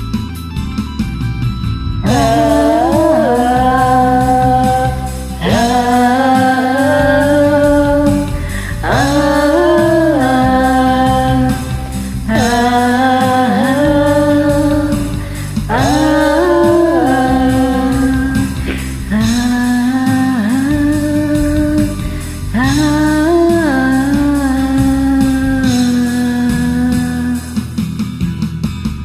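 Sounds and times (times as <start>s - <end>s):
karaoke backing track: 0.0s - 29.0s.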